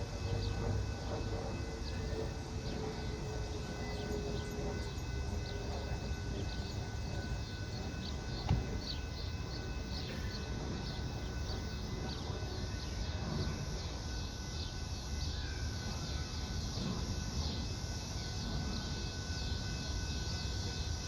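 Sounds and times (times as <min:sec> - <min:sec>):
train rumbling on tracks: 0:00.0 - 0:21.0.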